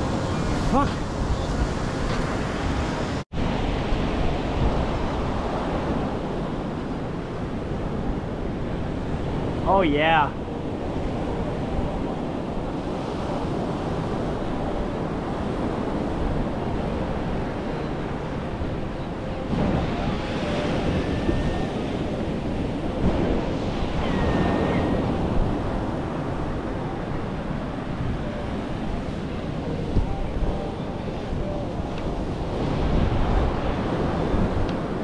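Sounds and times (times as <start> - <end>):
ocean surf breaking: 0.0 - 35.0
wind buffeting microphone: 0.0 - 35.0.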